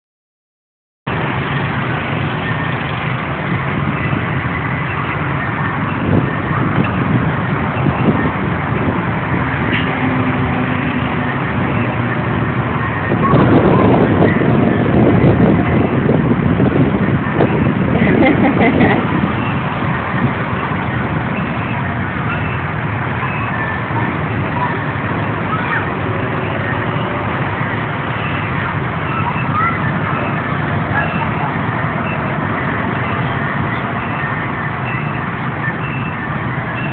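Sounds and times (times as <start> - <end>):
boat motors droning: 1.1 - 36.9.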